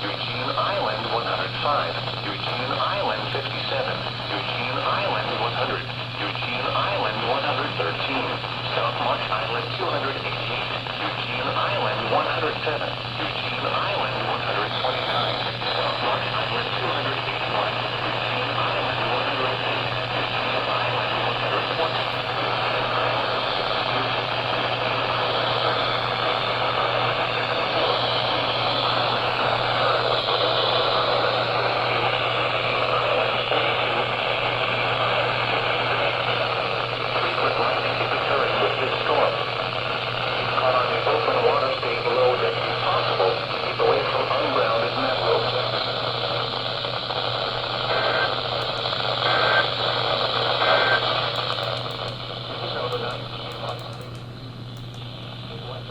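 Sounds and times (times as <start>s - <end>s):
low steady hum: 0.0s - 55.9s
radio static hiss: 0.0s - 55.9s.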